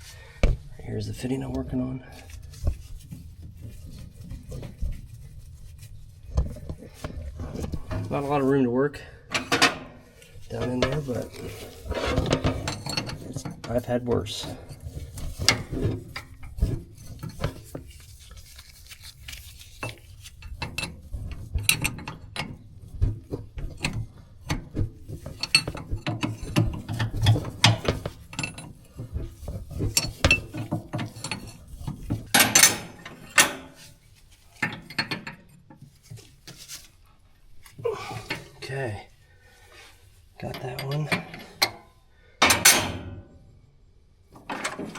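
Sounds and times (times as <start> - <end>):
rustling and scraping: 0.0 - 8.7, 9.3 - 43.6, 44.2 - 44.9.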